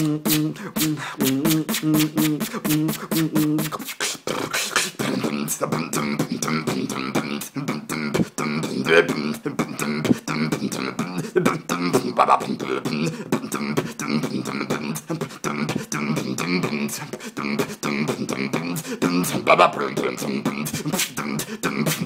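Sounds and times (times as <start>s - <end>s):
beatbox drum sounds: 0.0s - 22.0s.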